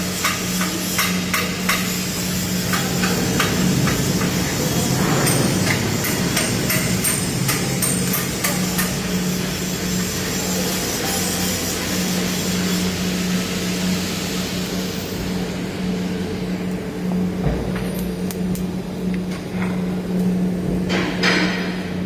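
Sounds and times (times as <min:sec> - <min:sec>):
steady low hum: 0:00.0 - 0:22.0
welding arc hissing: 0:00.0 - 0:22.0.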